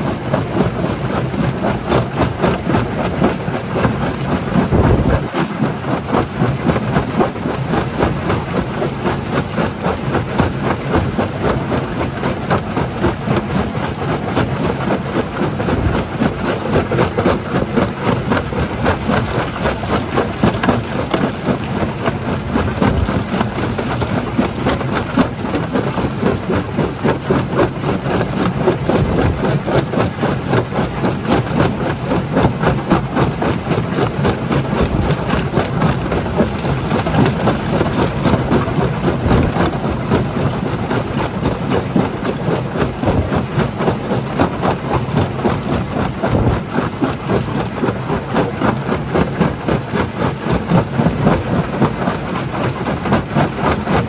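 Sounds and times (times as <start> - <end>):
heavy machinery drone: 0.0 - 48.2.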